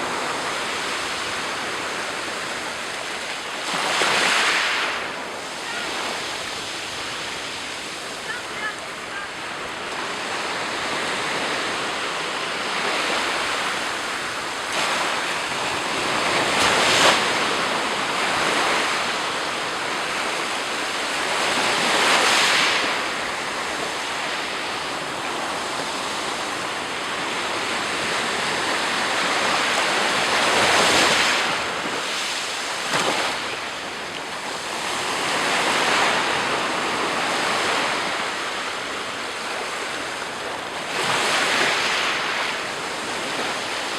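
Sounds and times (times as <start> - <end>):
waves breaking on shore: 0.0 - 43.9.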